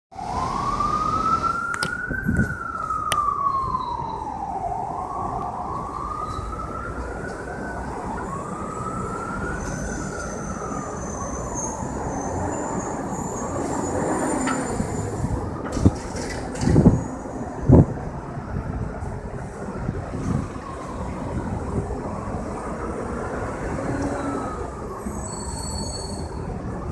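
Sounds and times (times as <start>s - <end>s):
emergency vehicle siren wailing: 0.1s - 26.9s.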